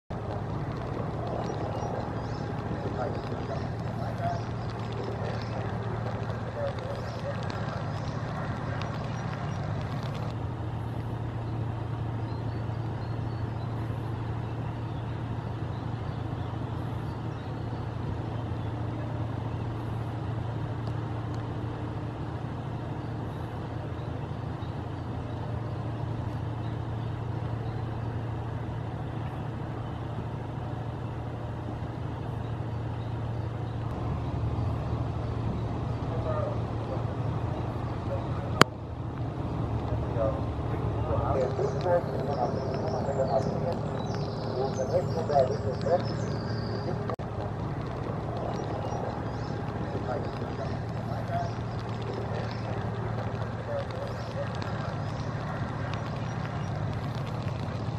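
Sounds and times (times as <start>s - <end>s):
low engine drone: 0.0s - 57.9s.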